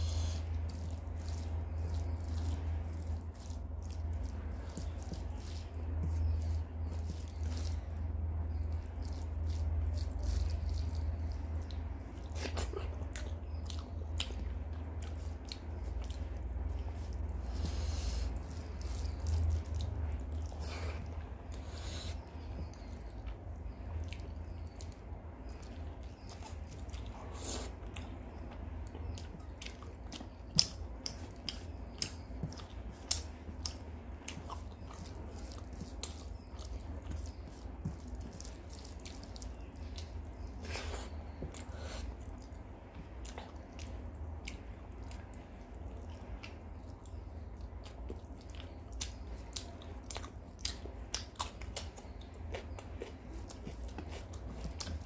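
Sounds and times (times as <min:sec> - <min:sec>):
wet chewing and mouth clicks: 0:00.0 - 0:55.0.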